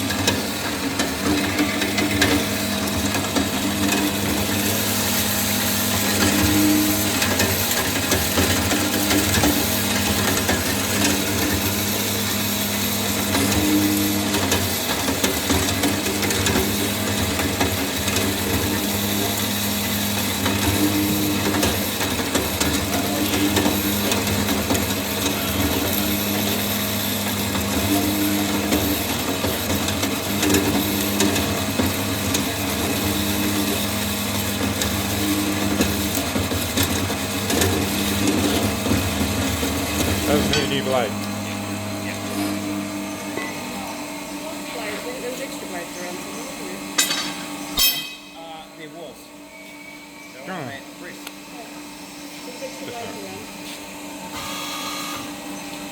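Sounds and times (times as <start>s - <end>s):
metal bandsaw humming: 0.0s - 49.2s.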